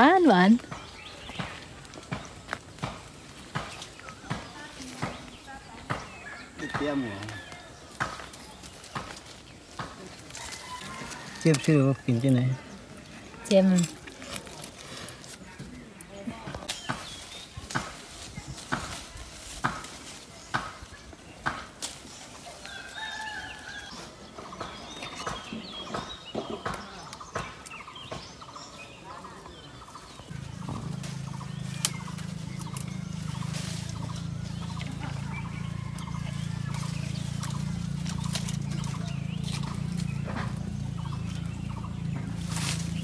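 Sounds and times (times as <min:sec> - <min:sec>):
twigs and leaves crackling: 0:00.0 - 0:43.0.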